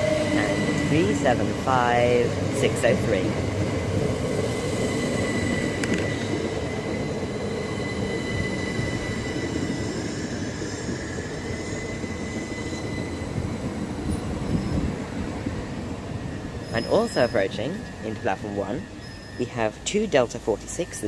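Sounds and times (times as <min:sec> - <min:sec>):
train high whine: 0:00.0 - 0:21.0
train wheels rumbling on track: 0:00.0 - 0:21.0.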